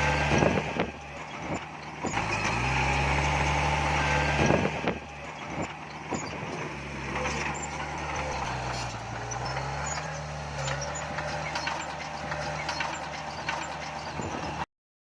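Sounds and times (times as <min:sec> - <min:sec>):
clanks and rattles: 0:00.0 - 0:14.7
diesel engine running under load: 0:00.0 - 0:14.7.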